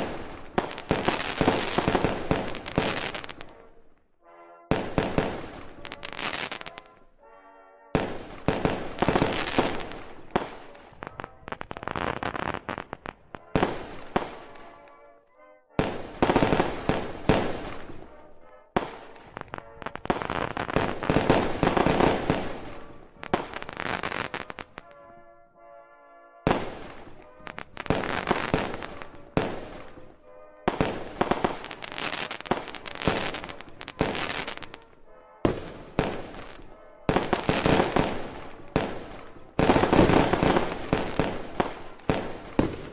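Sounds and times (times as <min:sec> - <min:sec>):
fireworks bangs: 0:00.0 - 0:03.8, 0:04.7 - 0:07.0, 0:08.0 - 0:14.9, 0:15.8 - 0:25.2, 0:26.4 - 0:42.9
fireworks crackling: 0:00.0 - 0:03.8, 0:04.8 - 0:07.0, 0:08.0 - 0:14.9, 0:15.8 - 0:25.0, 0:26.5 - 0:42.9.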